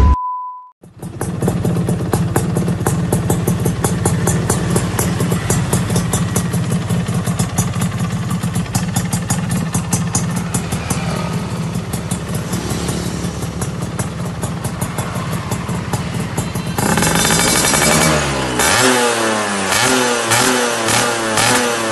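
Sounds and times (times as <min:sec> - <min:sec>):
two-stroke motorcycle engine: 0:00.8 - 0:21.9.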